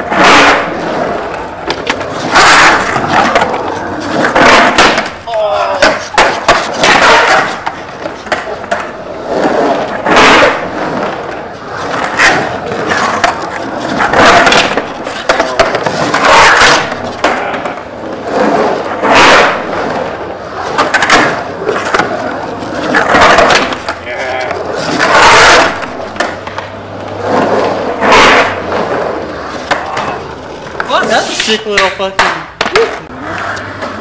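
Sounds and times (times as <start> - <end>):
skateboard clacks: 0.0 - 34.0
skateboard wheels rolling on concrete: 0.0 - 34.0.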